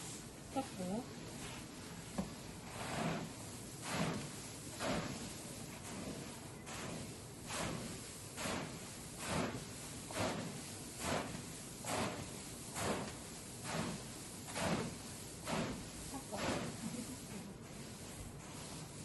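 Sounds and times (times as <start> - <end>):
paddle stirring puffed rice: 0.0 - 19.0.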